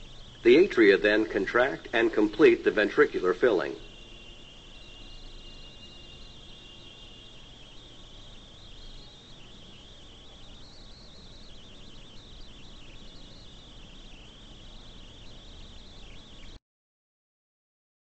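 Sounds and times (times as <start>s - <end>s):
insects chirring: 0.0s - 16.6s
low hiss: 0.0s - 16.6s.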